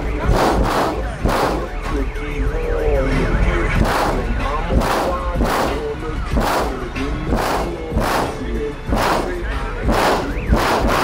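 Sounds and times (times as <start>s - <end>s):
loud bass-heavy music from car stereo: 0.0s - 11.0s.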